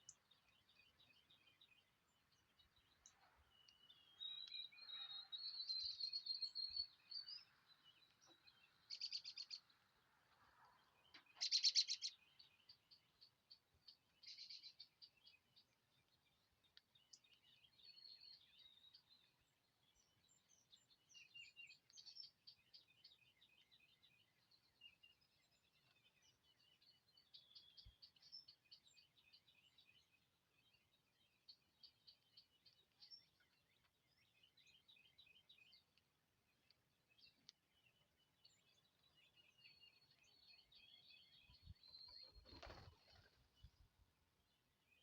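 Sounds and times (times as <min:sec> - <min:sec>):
small songbirds singing: 0:00.0 - 0:45.0.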